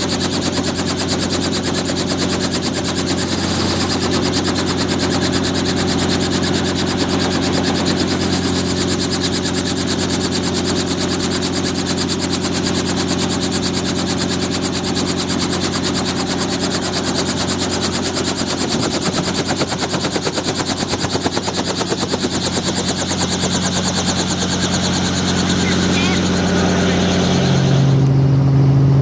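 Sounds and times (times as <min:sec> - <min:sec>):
helicopter rotor chop: 0:00.0 - 0:29.0
piston engine hum: 0:00.0 - 0:29.0.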